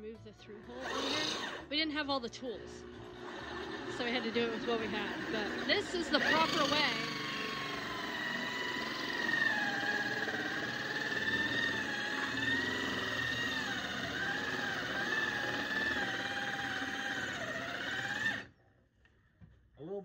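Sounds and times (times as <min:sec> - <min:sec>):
electric drill whining under load: 0:00.5 - 0:18.5.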